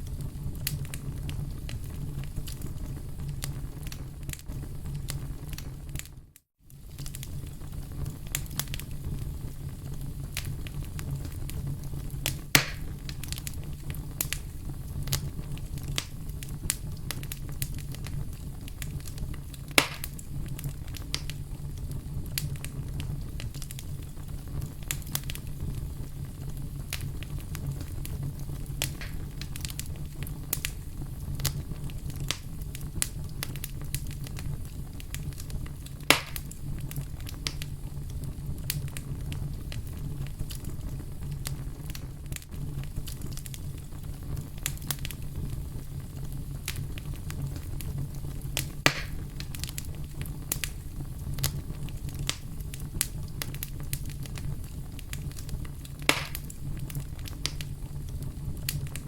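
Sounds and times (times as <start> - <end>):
fire crackling: 0.0 - 59.0
loud fire pops: 0.0 - 59.0
low rumble of fire: 0.0 - 59.0.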